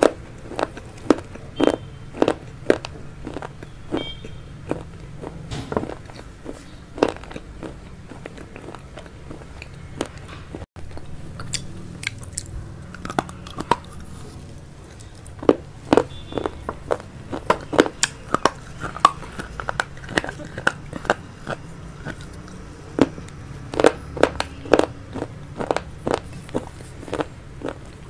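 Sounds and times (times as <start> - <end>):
person chewing noodles: 0.0 - 28.0.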